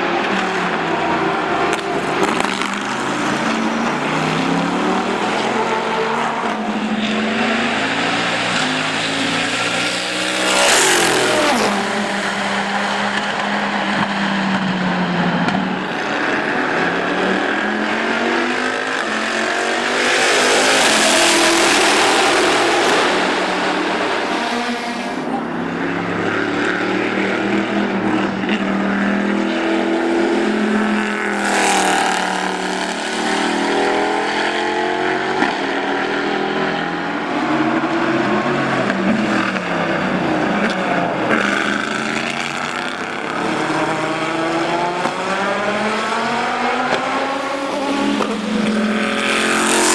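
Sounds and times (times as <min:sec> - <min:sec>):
car passing close: 0:00.0 - 0:49.9
racing car engine running hard: 0:00.0 - 0:49.9.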